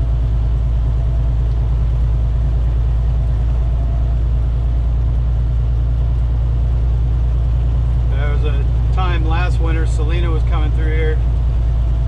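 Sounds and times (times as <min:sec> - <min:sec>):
truck engine and tyre drone: 0:00.0 - 0:12.0.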